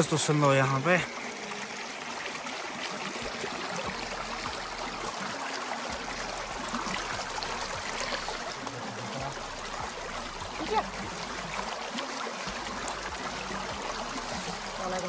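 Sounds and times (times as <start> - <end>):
stream babbling over stones: 0.0 - 15.0.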